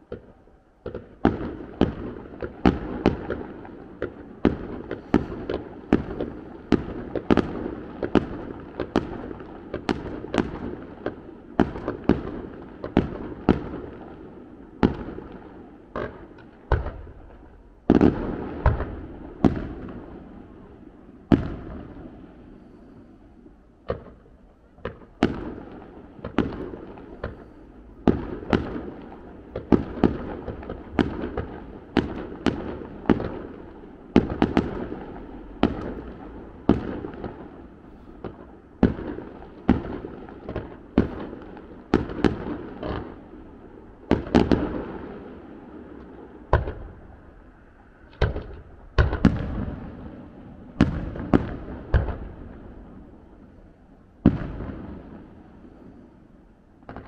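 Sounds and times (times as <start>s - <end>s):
fireworks bangs: 0.0s - 14.2s, 14.8s - 23.2s, 23.8s - 56.2s, 56.8s - 57.0s.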